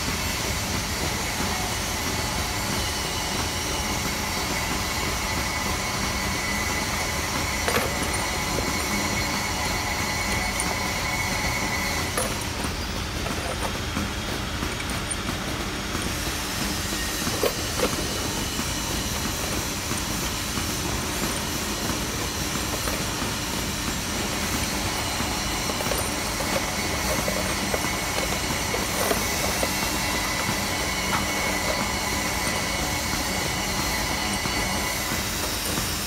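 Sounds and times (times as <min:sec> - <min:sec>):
workshop machinery humming: 0:00.0 - 0:36.0.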